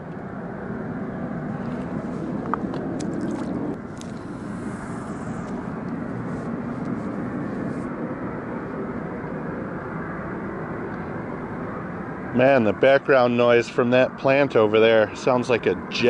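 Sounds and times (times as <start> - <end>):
distant industrial plant roar: 0.0 - 16.0.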